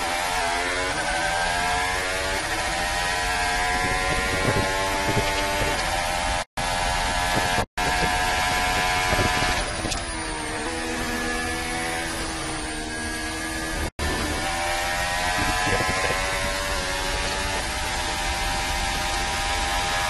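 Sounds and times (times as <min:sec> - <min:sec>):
racing car engine at full throttle: 0:00.0 - 0:20.0.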